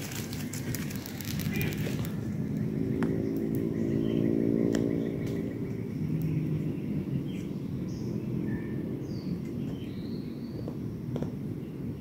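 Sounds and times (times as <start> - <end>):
distant engine drone: 0.0 - 12.0
forest ambience: 0.0 - 12.0
bird chirps: 0.1 - 11.9.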